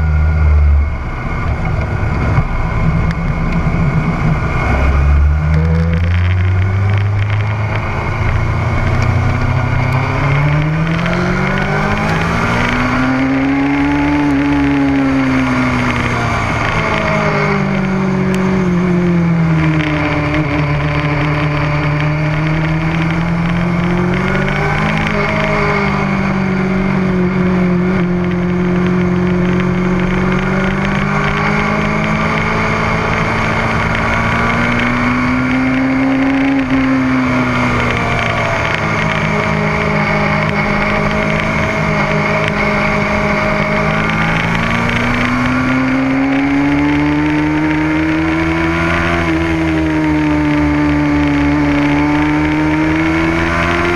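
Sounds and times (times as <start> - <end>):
motorcycle engine revving: 0.0 - 53.9
steady rush of noise: 0.0 - 53.9.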